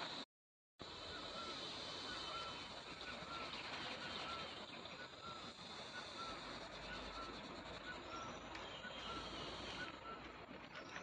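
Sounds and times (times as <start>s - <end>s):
steady outdoor hiss: 0.8s - 11.0s.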